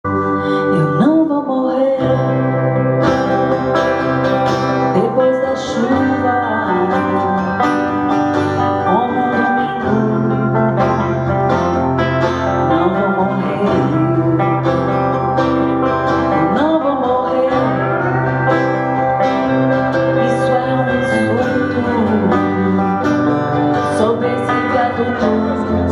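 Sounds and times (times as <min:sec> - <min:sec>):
plucked guitar: 0:00.0 - 0:25.9
steady bass line: 0:02.1 - 0:25.9
live band music: 0:02.2 - 0:25.9.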